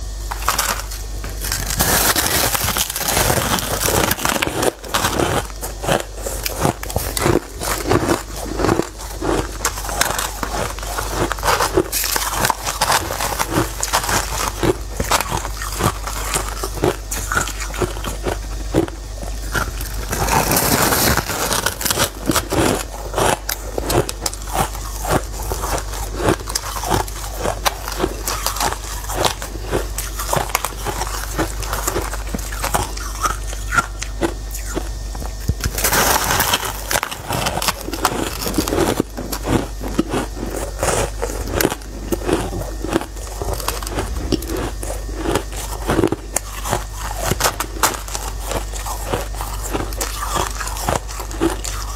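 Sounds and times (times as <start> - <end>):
shaved ice crunching when chewed: 0.0 - 51.9.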